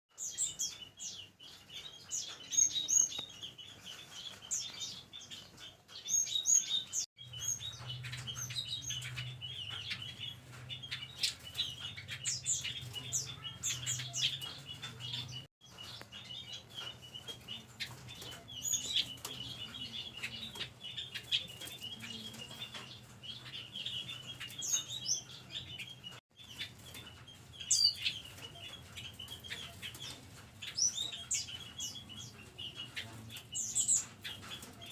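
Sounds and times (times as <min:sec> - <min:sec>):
robins chirping: 0:00.1 - 0:34.9
small birds chattering: 0:00.1 - 0:34.9.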